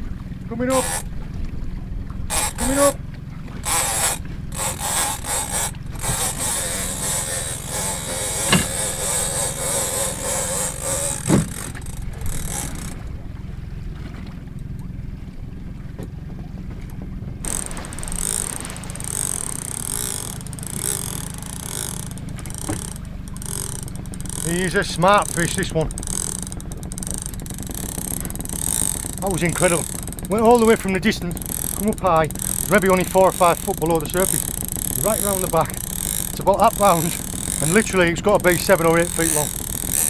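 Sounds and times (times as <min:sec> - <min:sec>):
fishing reel whirring and clicking: 0:00.6 - 0:01.2, 0:02.2 - 0:13.3, 0:16.9 - 0:40.0.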